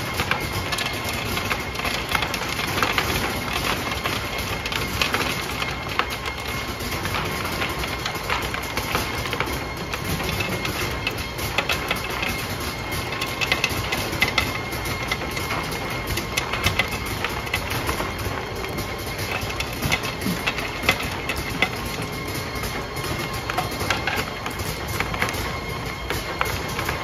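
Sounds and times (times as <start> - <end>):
machine belt drive hum: 0.0 - 27.0.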